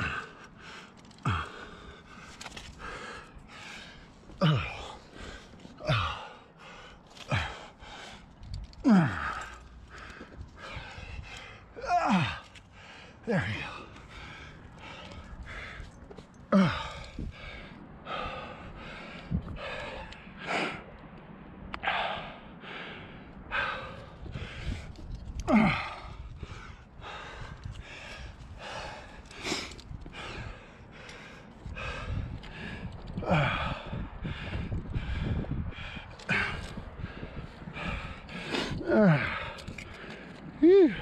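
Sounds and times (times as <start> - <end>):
person breathing hard: 0.0 - 21.0, 21.7 - 41.0.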